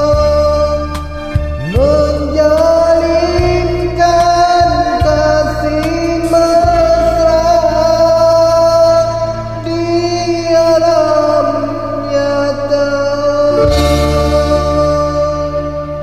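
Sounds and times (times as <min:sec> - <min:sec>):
ballad backing track: 0:00.0 - 0:16.0
person singing karaoke: 0:00.0 - 0:16.0.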